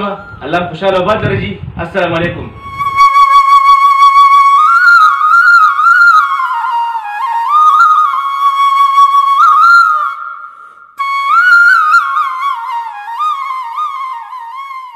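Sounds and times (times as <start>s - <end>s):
flute melody: 0.0s - 1.2s, 2.5s - 14.9s.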